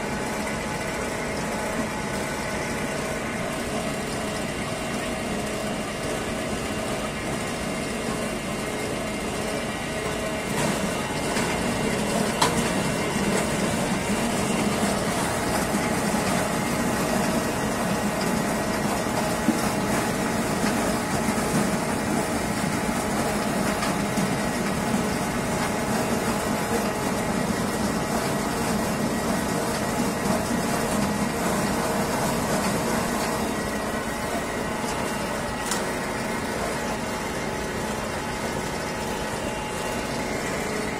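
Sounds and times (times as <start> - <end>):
apple press machinery humming: 0.0 - 40.9.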